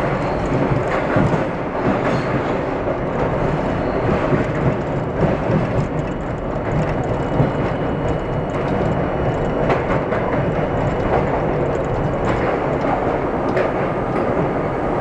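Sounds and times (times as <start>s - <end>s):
subway wheels on rails: 0.0s - 15.0s.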